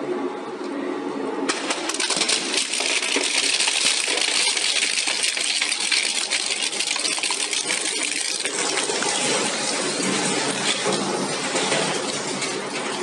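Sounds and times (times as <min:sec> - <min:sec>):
shredder crunching metal: 0:01.5 - 0:12.3.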